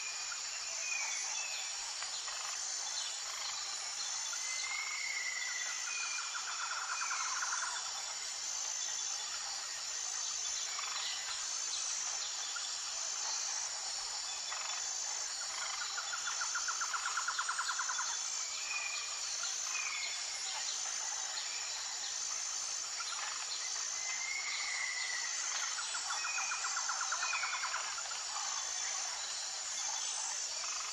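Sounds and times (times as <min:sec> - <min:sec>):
high insect drone: 0:00.0 - 0:30.9.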